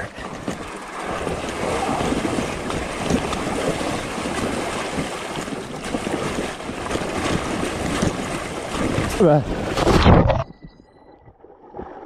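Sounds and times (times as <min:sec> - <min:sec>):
bike tyres splashing through river: 0:00.0 - 0:10.0
flowing water rushing: 0:00.0 - 0:10.4.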